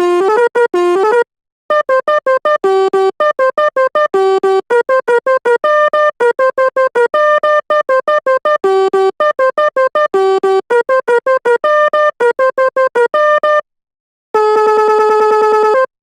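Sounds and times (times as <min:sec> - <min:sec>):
bus horn playing staccato melody: 0:00.0 - 0:13.6, 0:14.4 - 0:16.0.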